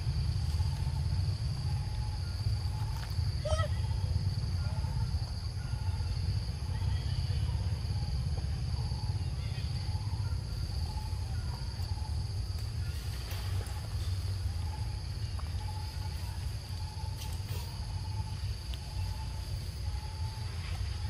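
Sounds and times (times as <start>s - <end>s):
continuous low rumble: 0.0s - 21.0s.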